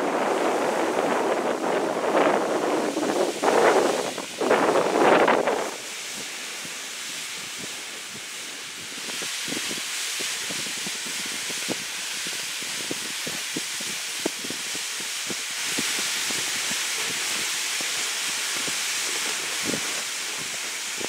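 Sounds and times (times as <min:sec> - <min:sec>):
plastic sleds dragged over snow: 0:00.0 - 0:21.0.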